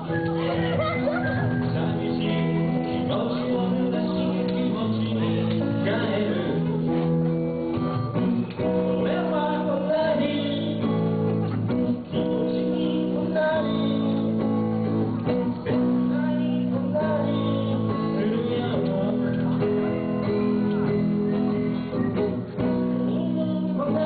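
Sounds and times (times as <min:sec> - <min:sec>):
guitar: 0:00.0 - 0:24.0
person singing: 0:00.0 - 0:24.0.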